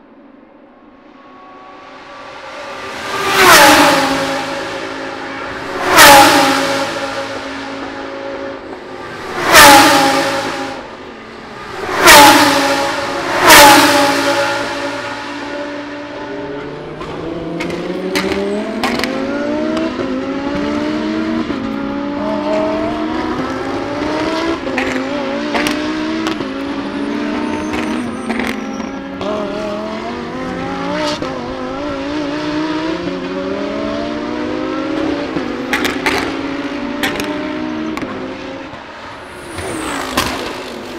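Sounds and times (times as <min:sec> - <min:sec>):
race cars passing at full speed: 0:00.0 - 0:40.9.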